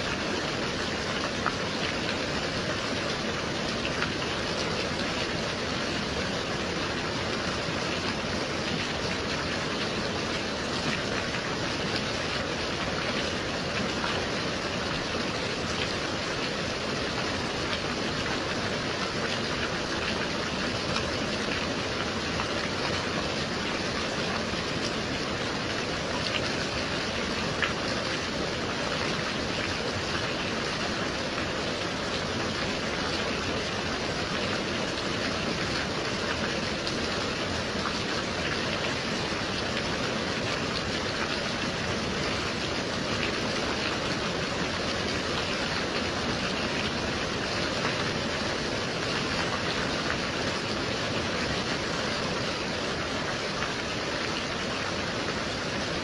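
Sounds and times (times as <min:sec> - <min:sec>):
gentle rain hiss: 0:00.0 - 0:56.0.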